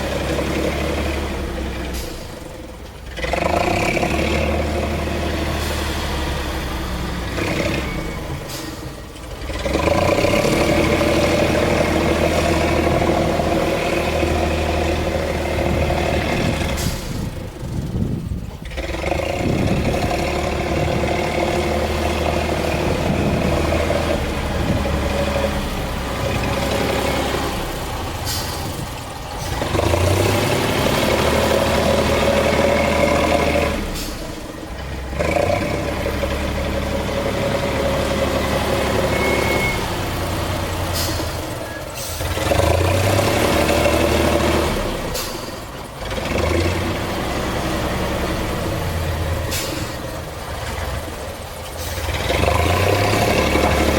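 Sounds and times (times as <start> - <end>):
engine revving under load: 0.0 - 53.9.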